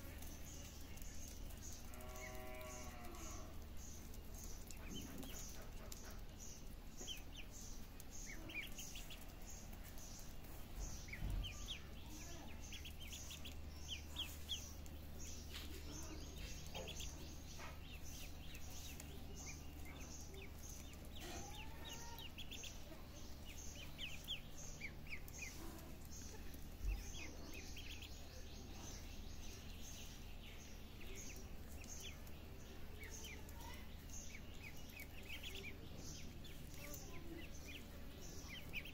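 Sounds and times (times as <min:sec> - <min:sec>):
ducklings peeping: 0:00.0 - 0:38.9
steady low hum: 0:00.0 - 0:38.9.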